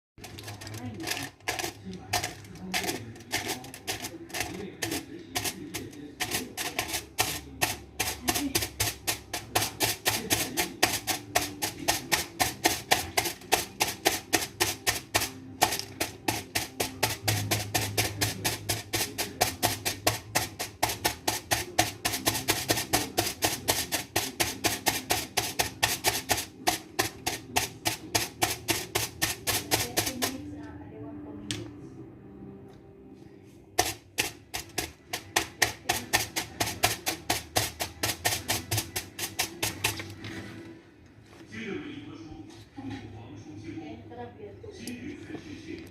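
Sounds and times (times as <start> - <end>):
aluminium foil crackling: 0.2 - 30.4, 33.8 - 40.6.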